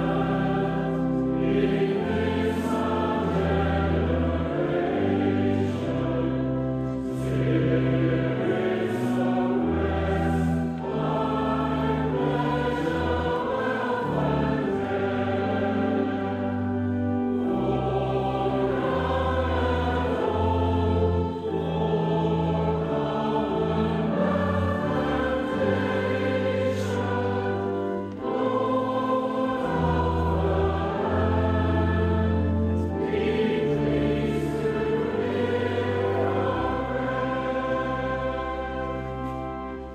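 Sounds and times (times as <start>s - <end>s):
congregation singing a hymn: 0.0s - 39.9s
low held organ notes: 0.0s - 39.9s.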